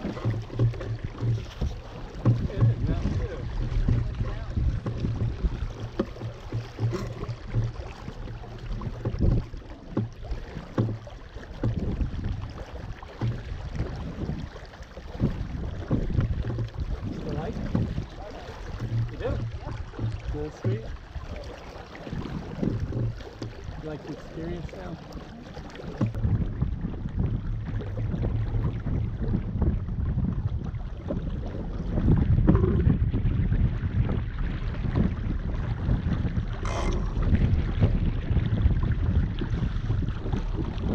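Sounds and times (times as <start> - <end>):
water slapping against a hull: 0.0 - 40.9
wind buffeting the microphone: 0.0 - 40.9.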